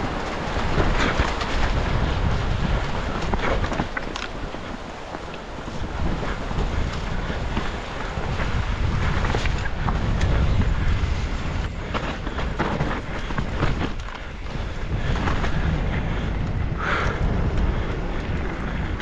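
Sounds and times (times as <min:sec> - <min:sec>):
bike knocks and rattles: 0:00.0 - 0:19.0
mountain bike rumbling on dirt: 0:00.0 - 0:19.0
wind buffeting microphone: 0:00.0 - 0:19.0.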